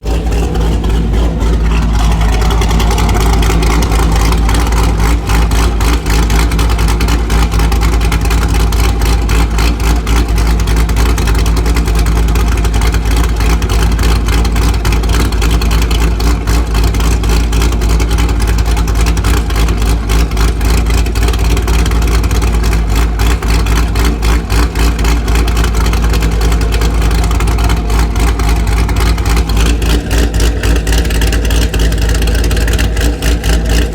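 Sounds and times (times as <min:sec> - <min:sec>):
car engine exhaust rumble: 0:00.0 - 0:33.9.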